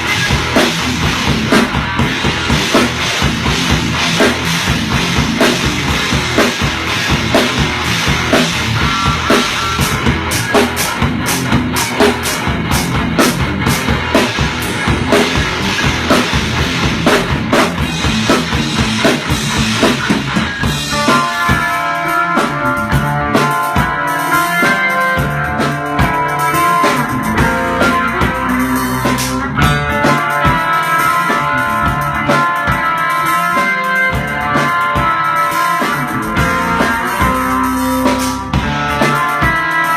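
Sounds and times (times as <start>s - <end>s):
drum kit playing: 0.0s - 39.9s
guitar playing: 0.0s - 39.9s.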